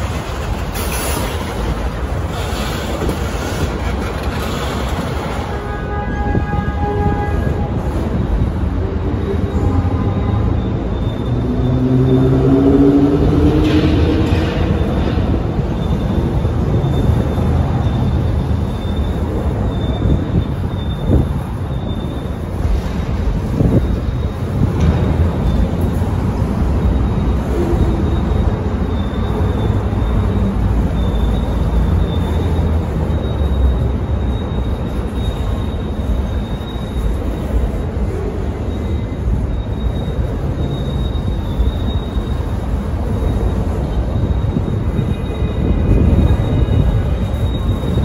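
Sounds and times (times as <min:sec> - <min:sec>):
high wheel squeal: 0:00.0 - 0:48.0
train wheels rumbling on rails: 0:00.0 - 0:48.0.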